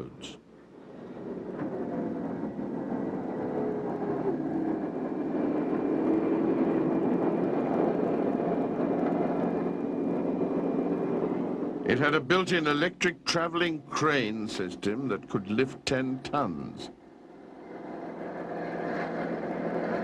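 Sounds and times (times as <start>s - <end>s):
engine drone: 0.0s - 20.0s.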